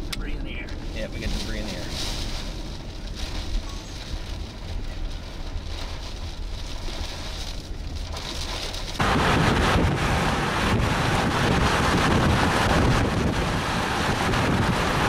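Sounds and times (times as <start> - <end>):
low road rumble: 0.0 - 15.0
rain on car windshield: 0.0 - 15.0
wind buffeting microphone: 0.8 - 15.0.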